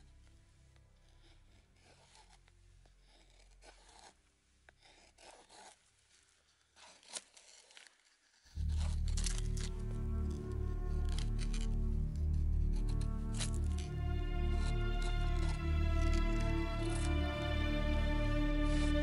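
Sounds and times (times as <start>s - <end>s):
knife shaving wood: 0.0s - 19.0s.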